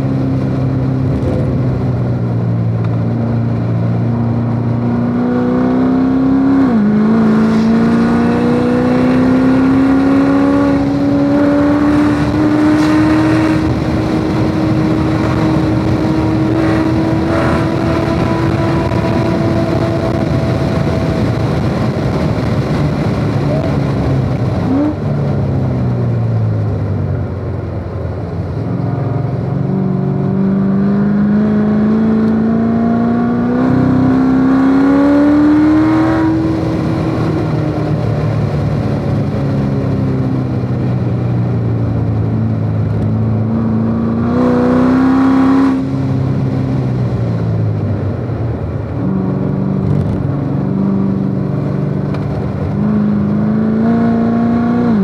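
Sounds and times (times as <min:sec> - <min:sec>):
car engine at full throttle: 0:00.0 - 0:55.0
wind and road noise: 0:00.0 - 0:55.0.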